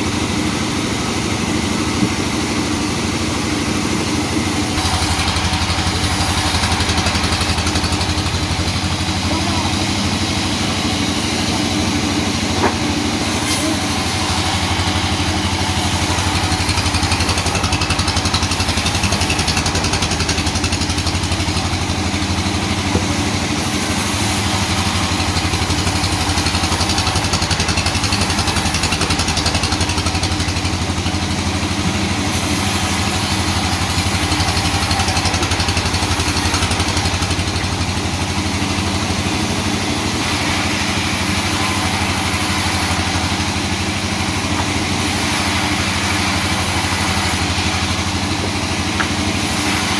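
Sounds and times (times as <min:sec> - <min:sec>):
sawmill machinery hum: 0:00.0 - 0:49.9.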